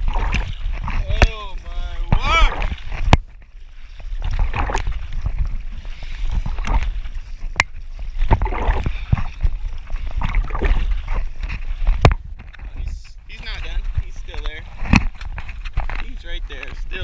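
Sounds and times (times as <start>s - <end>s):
water splashing around a kayak: 0.0s - 17.0s
wind rumble on microphone: 0.0s - 17.0s.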